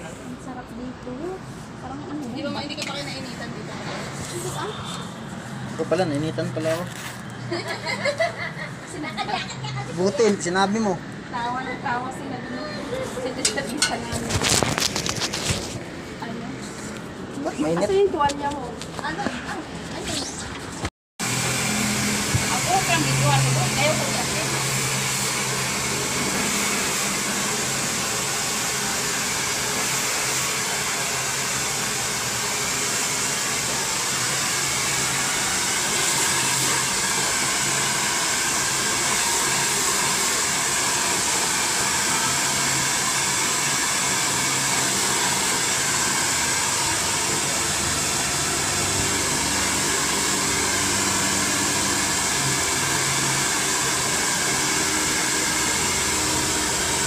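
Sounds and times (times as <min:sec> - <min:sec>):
hair dryer blowing: 0:00.9 - 0:20.4, 0:21.2 - 0:57.0.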